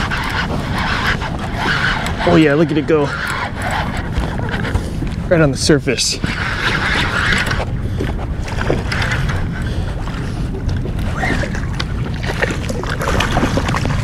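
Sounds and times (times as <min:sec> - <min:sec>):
water lapping against hull: 0:00.0 - 0:14.0
wind on microphone: 0:00.0 - 0:14.0.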